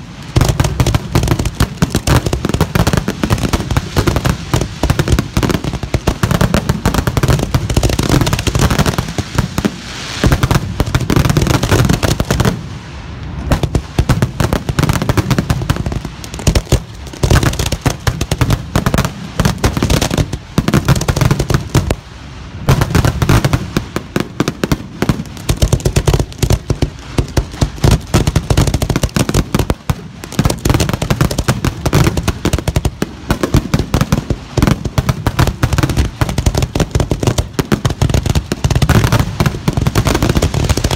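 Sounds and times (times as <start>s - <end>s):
firework mortar launches: 0.0s - 40.9s.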